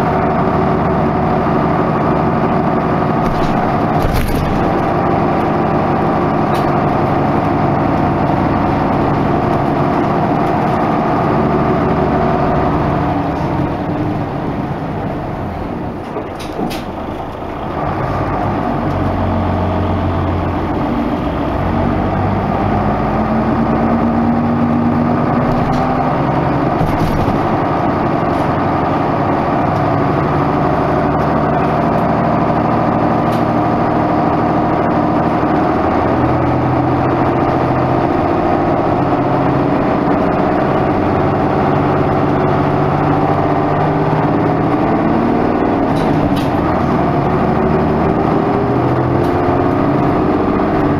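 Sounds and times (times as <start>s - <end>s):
bus diesel engine changing gears: 0.0s - 50.9s.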